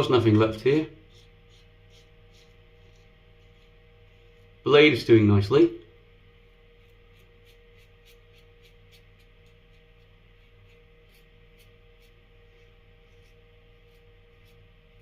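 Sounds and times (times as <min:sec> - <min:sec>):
razor scraping over face: 0:00.0 - 0:04.6, 0:06.7 - 0:15.0
low steady hum: 0:00.0 - 0:15.0.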